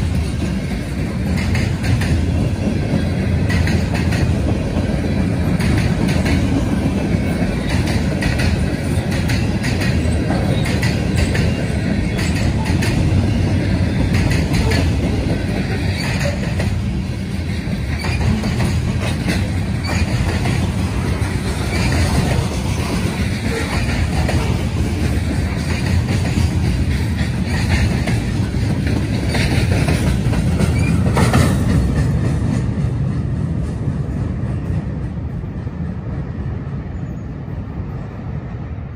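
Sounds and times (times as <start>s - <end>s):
wheels clicking over rail joints: 0.0s - 33.0s
train wheels rumbling on rail: 0.0s - 38.9s.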